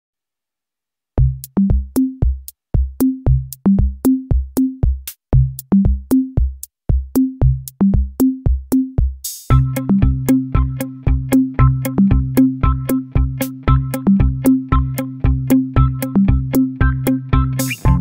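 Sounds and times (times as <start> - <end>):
electronic music with bass-drum beat: 1.2 - 18.0.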